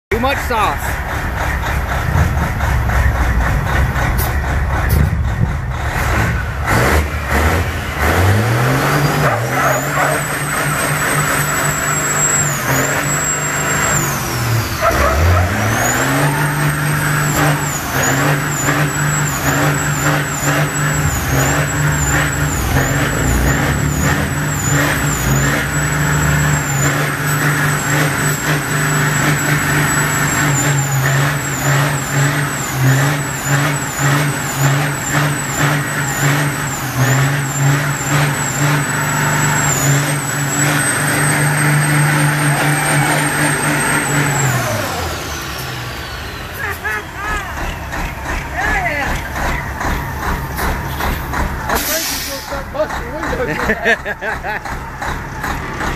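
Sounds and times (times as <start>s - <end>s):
tires spinning: 0.1s - 55.9s
truck engine at high revs: 0.1s - 55.9s.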